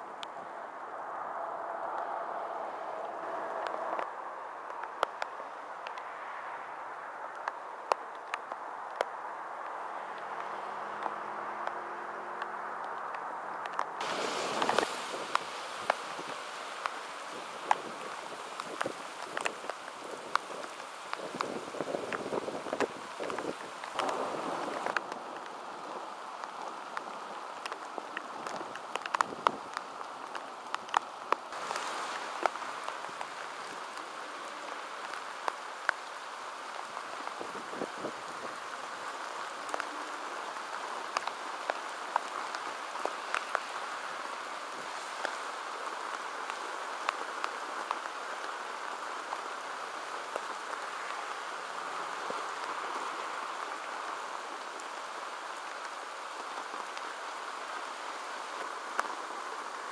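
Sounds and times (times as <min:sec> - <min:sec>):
heavy rain hissing: 0:00.0 - 0:59.9
sharp rain taps: 0:00.0 - 0:59.9.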